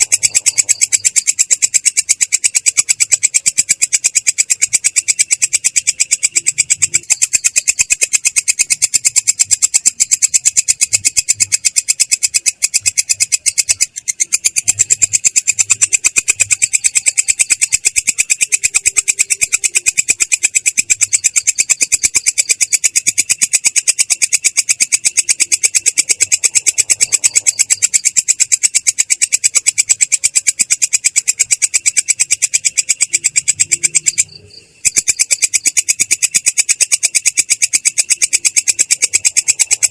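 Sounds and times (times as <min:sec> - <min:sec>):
katydid trilling: 0:00.0 - 0:39.9.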